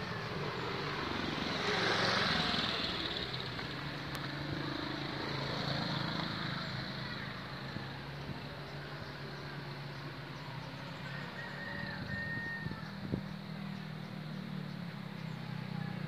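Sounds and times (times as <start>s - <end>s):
low engine hum: 0.0s - 16.0s
vehicle engine passing: 0.0s - 16.0s.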